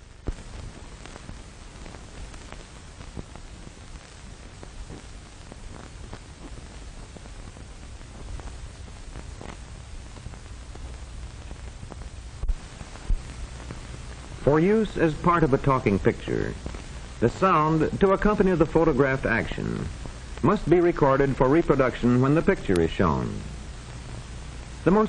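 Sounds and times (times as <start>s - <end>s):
crackles and pops: 0.0s - 25.0s
film soundtrack hiss: 0.0s - 25.0s.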